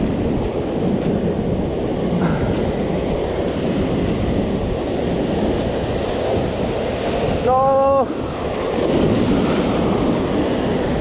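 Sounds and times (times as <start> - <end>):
surf breaking over rocks: 0.0 - 11.0
wind on microphone: 0.0 - 11.0.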